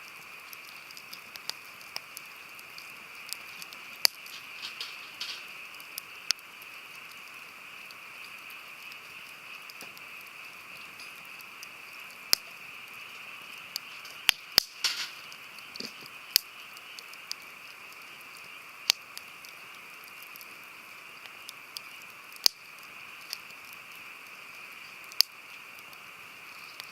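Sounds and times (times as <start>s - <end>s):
campfire hissing and popping: 0.0s - 26.9s.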